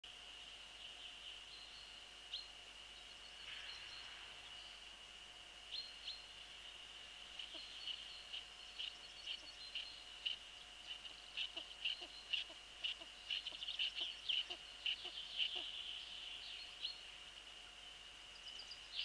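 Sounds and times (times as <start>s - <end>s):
steady high-pitched whine: 0.0s - 19.0s.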